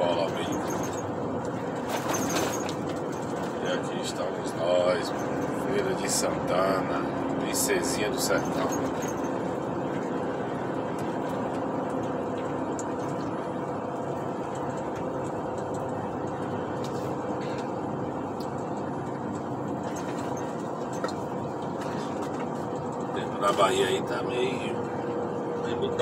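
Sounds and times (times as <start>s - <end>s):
truck engine and road noise: 0.0s - 26.0s.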